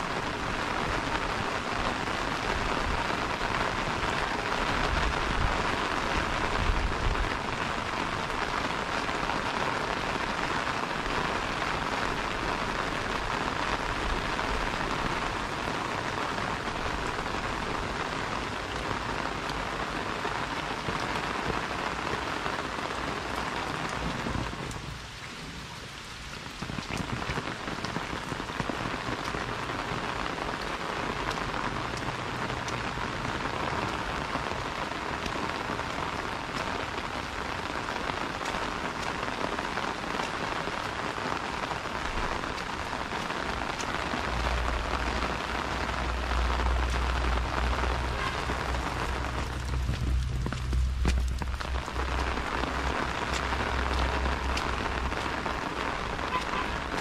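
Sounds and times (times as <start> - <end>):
rain on wet paving: 0.0 - 57.0
rain pattering on umbrella: 0.0 - 57.0.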